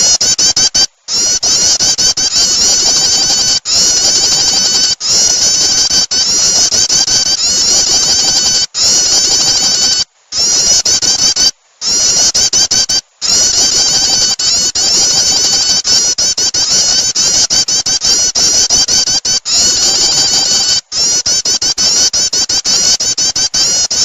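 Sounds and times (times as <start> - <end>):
high-pitched bird chattering calls: 0.0 - 24.0.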